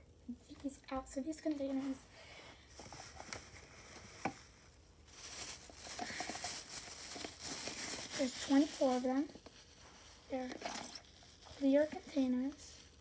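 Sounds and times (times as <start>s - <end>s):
plastic wrap crinkling: 2.6s - 13.0s.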